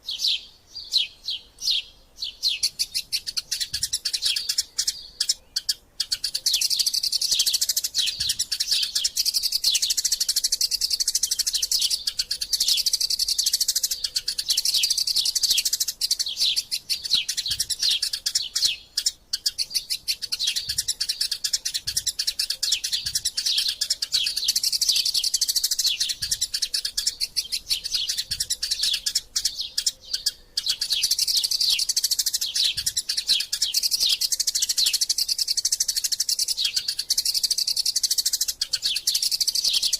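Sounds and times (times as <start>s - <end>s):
sparrows chirping rapidly: 0.0s - 39.9s.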